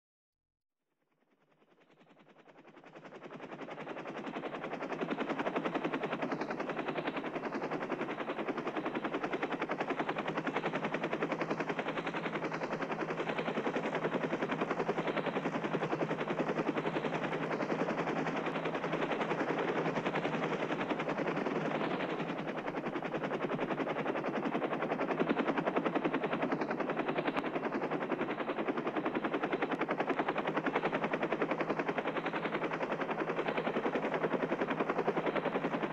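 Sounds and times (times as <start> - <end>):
helicopter rotor beating: 1.6 - 35.9.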